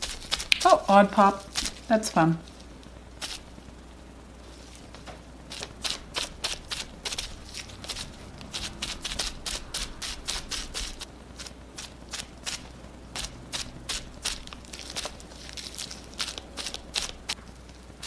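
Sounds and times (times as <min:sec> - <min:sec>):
bubble wrap patting paper: 0:00.0 - 0:03.6, 0:04.4 - 0:18.0.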